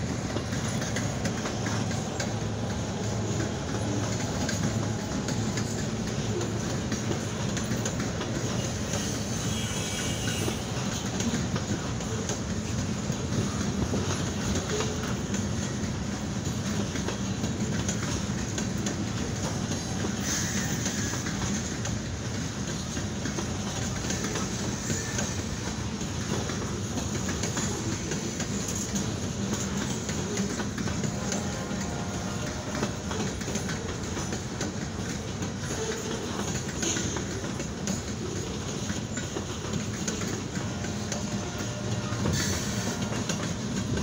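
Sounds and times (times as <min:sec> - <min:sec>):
freight train wheels on rail: 0:00.0 - 0:44.0.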